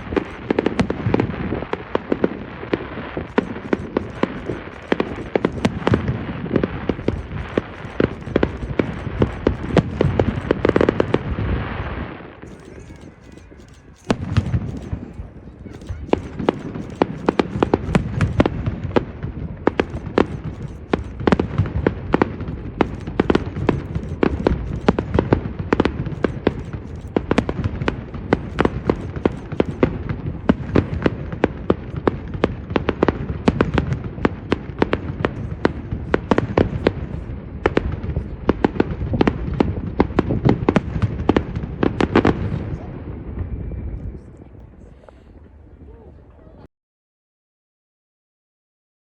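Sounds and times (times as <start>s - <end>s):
fireworks cracking and popping: 0.0s - 42.9s.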